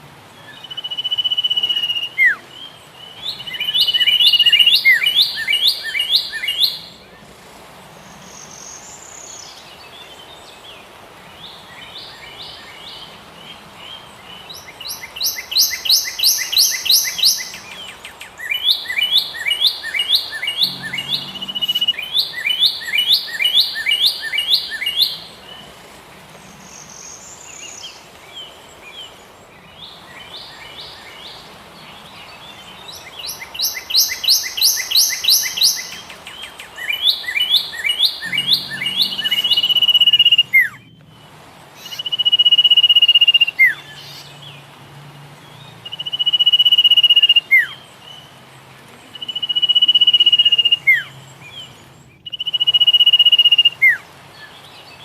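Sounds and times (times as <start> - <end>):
songbird rapid chirps: 0.0 - 55.0.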